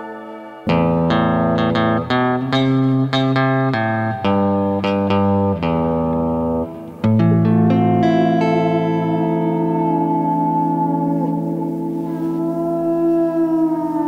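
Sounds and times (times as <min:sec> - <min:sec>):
plucked guitar: 0:00.0 - 0:14.0
bass line: 0:00.7 - 0:13.1.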